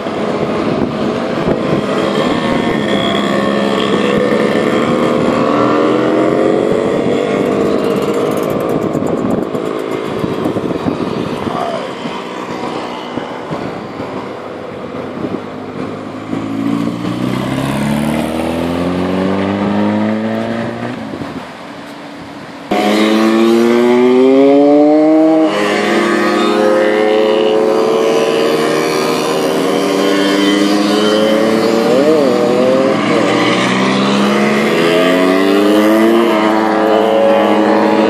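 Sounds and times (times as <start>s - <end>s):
mopeds and motorcycles passing: 0.0s - 38.0s.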